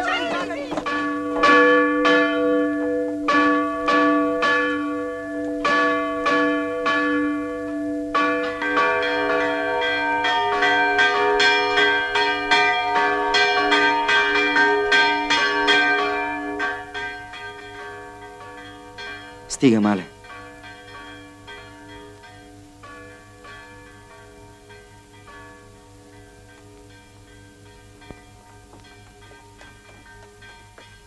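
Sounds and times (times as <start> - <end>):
church bell struck rapidly: 0.0 - 31.0.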